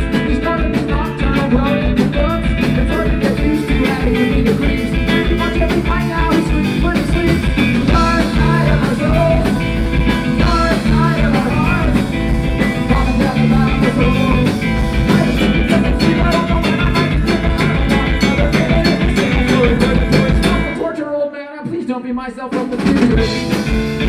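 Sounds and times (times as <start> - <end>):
steady drum beat: 0.0 - 20.8, 22.6 - 24.0
live rock band playing: 0.0 - 21.0, 22.5 - 24.0.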